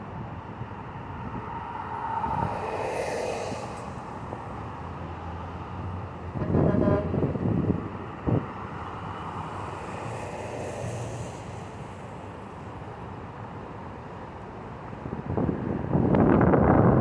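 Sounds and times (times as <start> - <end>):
road traffic rushing: 0.0 - 16.8.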